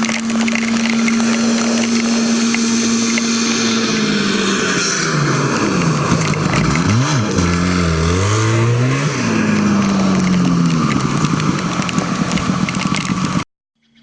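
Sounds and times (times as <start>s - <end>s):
snowmobile engines revving: 0.0s - 13.4s.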